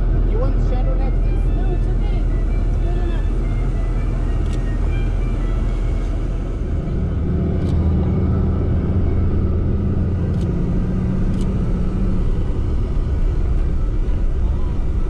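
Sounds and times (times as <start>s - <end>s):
car engine: 0.0s - 15.0s.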